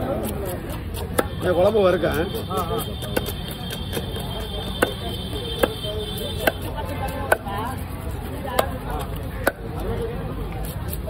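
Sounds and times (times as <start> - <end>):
knife chopping fish on wood: 0.0 - 9.8.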